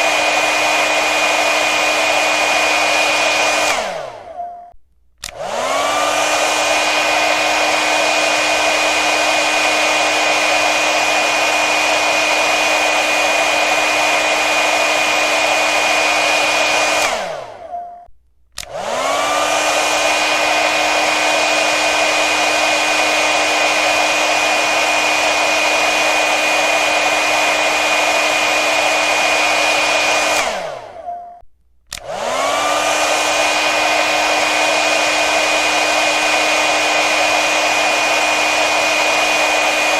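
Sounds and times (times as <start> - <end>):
hair dryer blowing: 0.0 - 4.4, 5.2 - 17.8, 18.6 - 31.1, 31.9 - 39.9.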